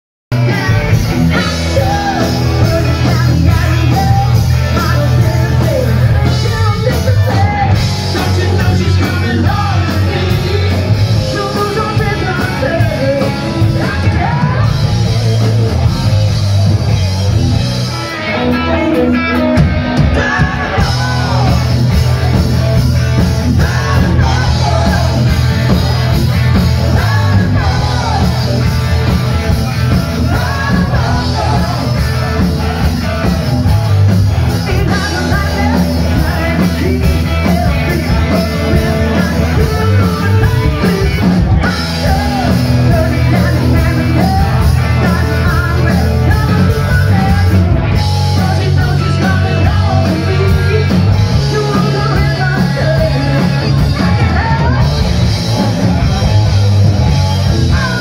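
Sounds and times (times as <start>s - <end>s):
lead singer: 0.3s - 58.0s
live rock band playing: 0.3s - 58.0s.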